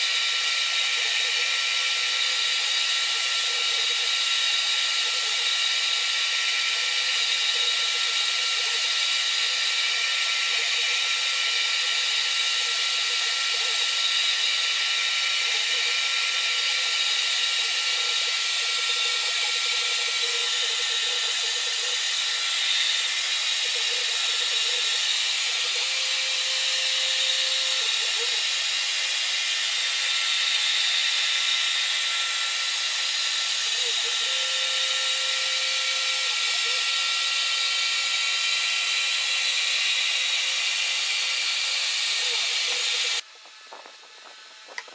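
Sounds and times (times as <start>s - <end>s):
power tool whirring: 0.0s - 44.9s.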